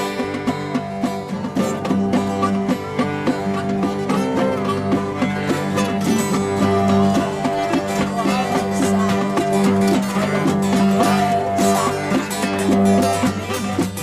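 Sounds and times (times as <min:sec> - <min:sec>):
rapidly picked banjo: 0:00.0 - 0:14.0
strummed guitars: 0:00.0 - 0:14.0.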